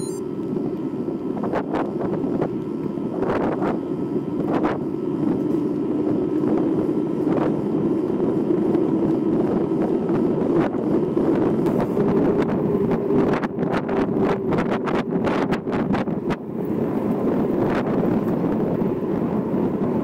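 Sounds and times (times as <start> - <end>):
wind buffeting microphone: 0.5 - 20.0
bike tyres rolling on asphalt: 3.8 - 20.0.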